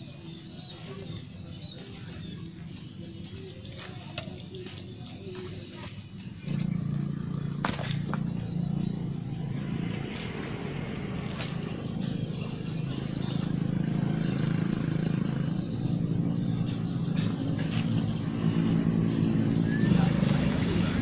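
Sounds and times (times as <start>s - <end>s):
steady low hum: 0.9s - 21.0s.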